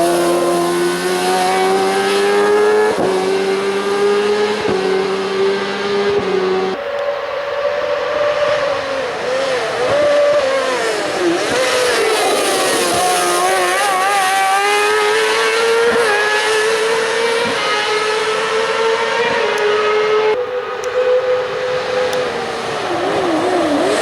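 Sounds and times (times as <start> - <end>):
race car engine at full throttle: 0.0 - 24.0.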